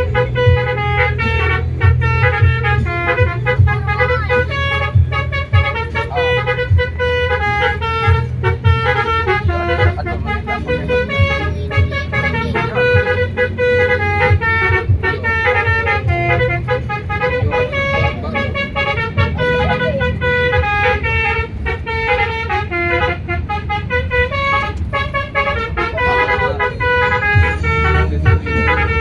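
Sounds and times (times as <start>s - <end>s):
low vehicle noise: 0.0s - 29.0s
multi-tone air horn melody: 0.0s - 29.0s.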